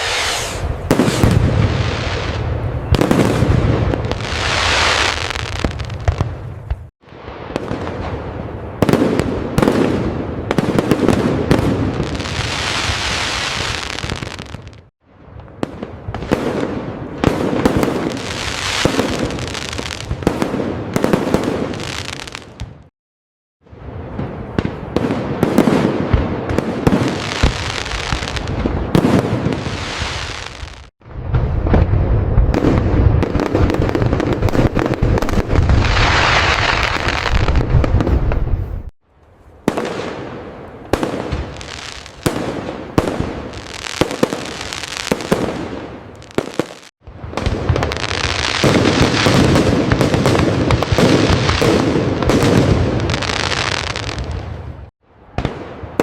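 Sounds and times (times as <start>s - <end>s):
fireworks booms and crackling: 0.0s - 22.9s, 23.6s - 38.9s, 39.6s - 56.0s.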